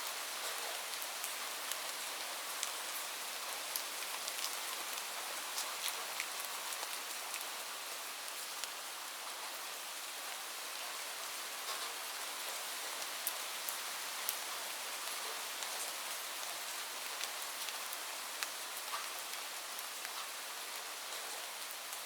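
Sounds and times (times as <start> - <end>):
light rain falling: 0.0 - 22.0.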